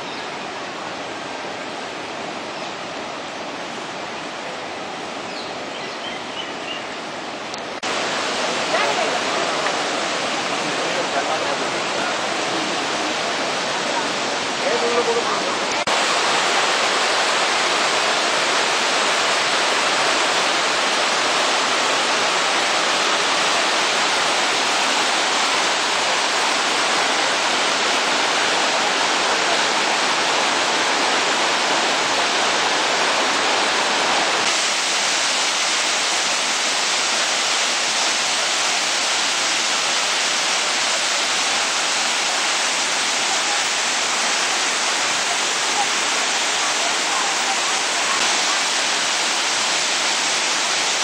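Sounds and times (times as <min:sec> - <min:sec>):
river rushing over rapids: 0:00.0 - 0:51.0.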